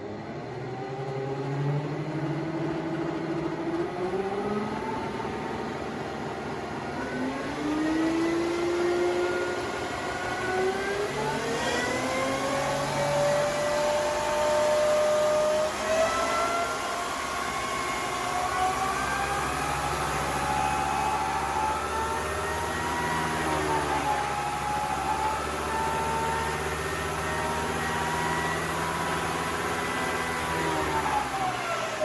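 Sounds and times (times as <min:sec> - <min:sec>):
electric motor whine: 0:00.0 - 0:32.0.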